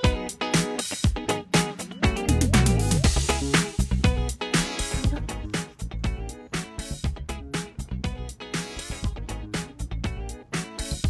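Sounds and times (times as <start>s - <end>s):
upbeat funk music: 0.0s - 11.0s.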